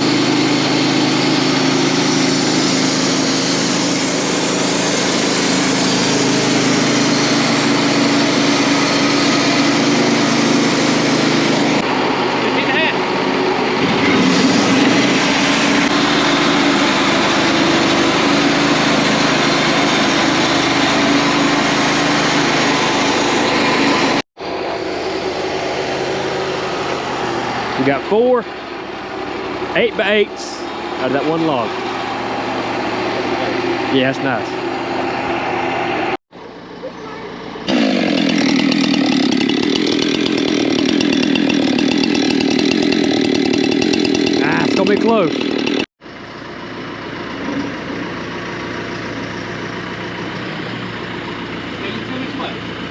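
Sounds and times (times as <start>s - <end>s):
band sawmill engine drone: 0.0s - 52.9s.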